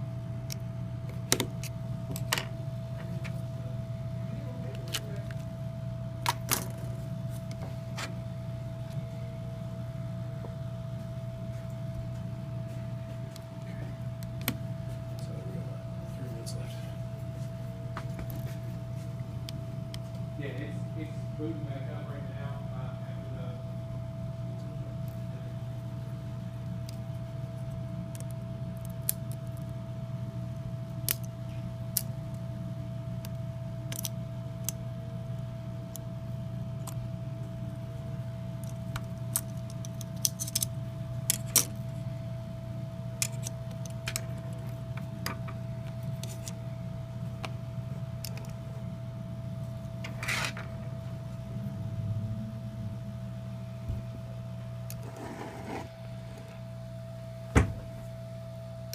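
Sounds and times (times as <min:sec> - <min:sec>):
faint whine: 0:00.0 - 0:58.9
low hum: 0:00.0 - 0:58.9.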